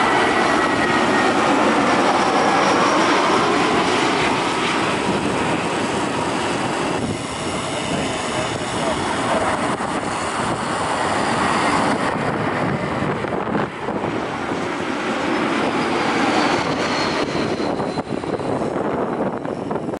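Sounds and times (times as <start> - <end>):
jet airliner passing low: 0.0 - 20.0.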